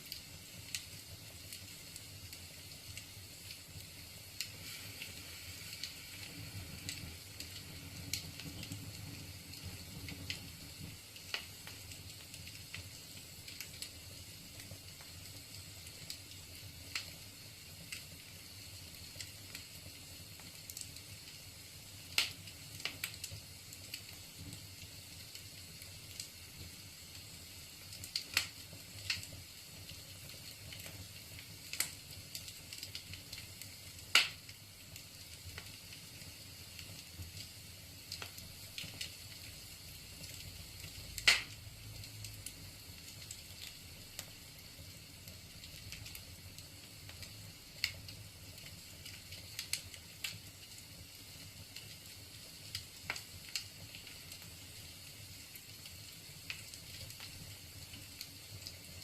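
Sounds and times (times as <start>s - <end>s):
fire crackling and popping: 0.0s - 59.0s
wood fire hissing: 0.0s - 59.0s.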